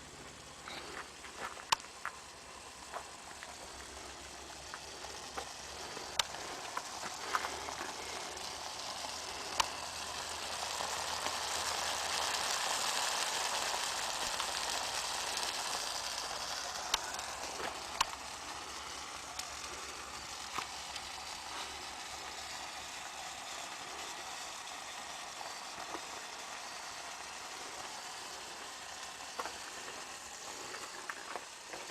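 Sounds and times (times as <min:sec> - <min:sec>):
sharp clicks and pops: 0:00.2 - 0:31.9
food sizzling in a pan: 0:02.2 - 0:31.7.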